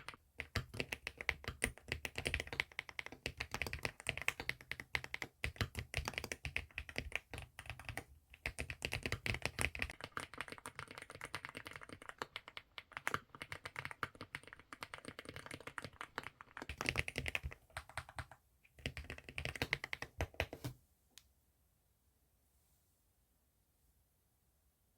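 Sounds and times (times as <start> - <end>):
mechanical keyboard typing: 0.0 - 20.7.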